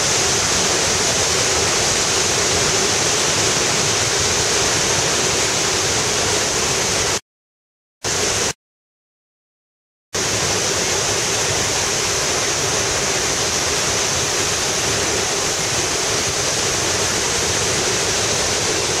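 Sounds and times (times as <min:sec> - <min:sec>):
waterfall rushing: 0:00.0 - 0:07.2, 0:10.2 - 0:19.0.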